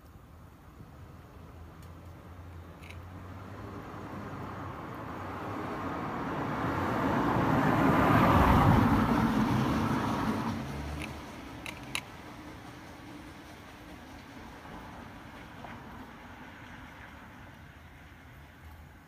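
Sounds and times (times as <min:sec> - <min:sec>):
car passing by: 0:01.4 - 0:19.0.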